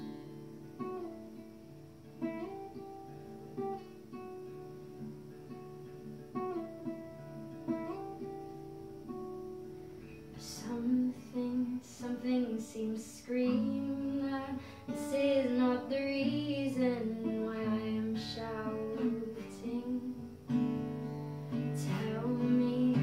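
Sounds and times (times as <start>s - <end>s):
acoustic guitar picked chords: 0.0s - 23.0s.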